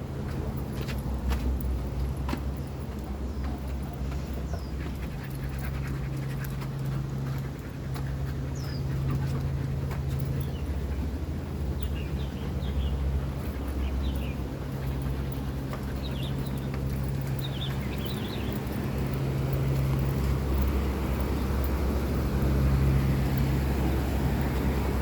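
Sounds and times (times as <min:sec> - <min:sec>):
dog panting: 0:02.9 - 0:25.0.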